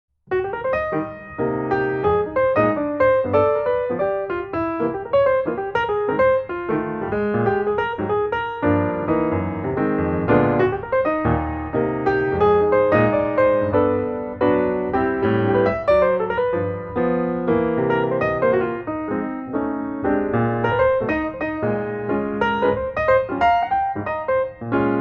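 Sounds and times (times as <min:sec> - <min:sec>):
piano music: 0:00.3 - 0:25.0.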